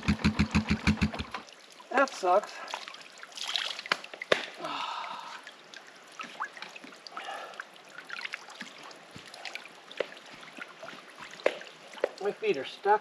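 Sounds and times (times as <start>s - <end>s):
squelching and sloshing in mud: 0.4s - 4.6s, 5.2s - 12.3s.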